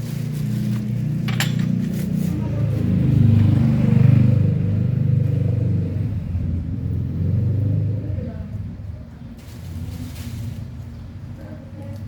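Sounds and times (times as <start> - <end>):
motor low rumble: 0.0 - 11.0.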